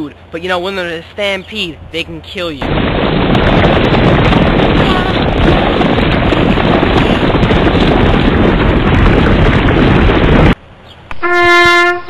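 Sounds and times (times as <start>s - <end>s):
rumble of many hooves: 0.0s - 11.9s.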